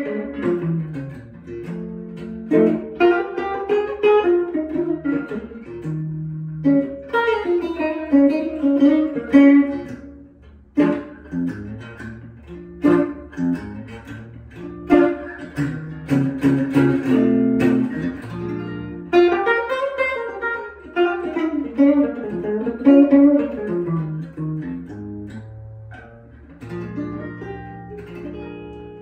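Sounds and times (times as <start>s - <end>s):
guitar being played: 0.0s - 29.0s.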